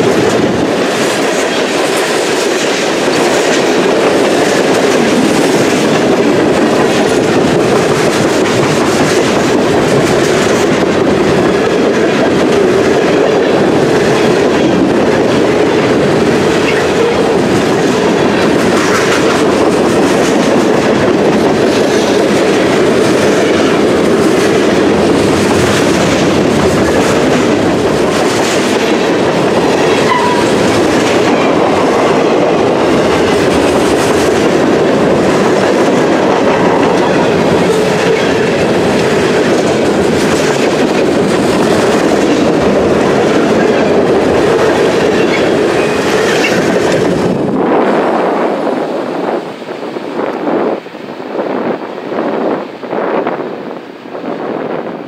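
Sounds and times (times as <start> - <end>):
wheels clacking over rail joints: 0.0 - 47.7
train wheels rumbling on rails: 0.0 - 55.0.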